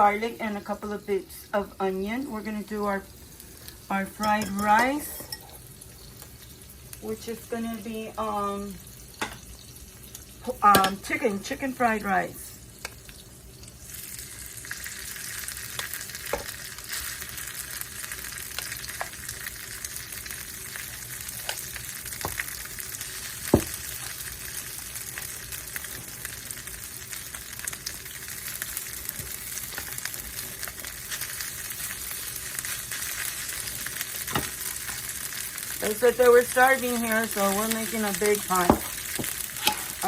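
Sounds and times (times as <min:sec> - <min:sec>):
garlic and onion sizzling: 0:00.0 - 0:40.0.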